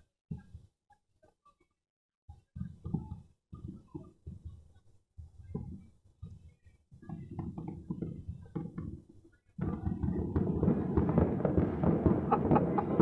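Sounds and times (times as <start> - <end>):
distant firecrackers and fireworks popping: 0.0 - 1.4, 2.3 - 13.0.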